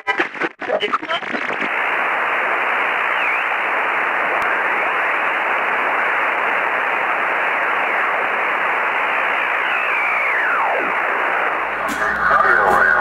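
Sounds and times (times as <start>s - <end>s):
radio static hiss: 0.0s - 13.0s
radio tuning whistles: 1.2s - 13.0s.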